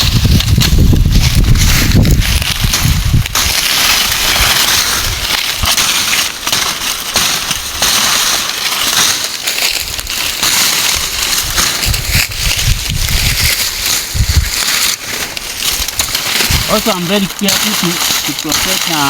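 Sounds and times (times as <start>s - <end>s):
dry stalks crackling and rustling: 0.0s - 19.0s
sharp snaps of stalks: 0.0s - 19.0s.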